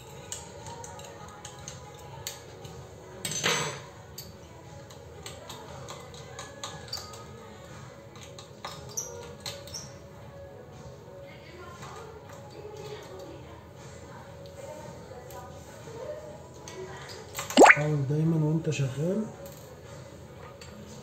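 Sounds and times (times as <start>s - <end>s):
faint music: 0.0s - 21.0s.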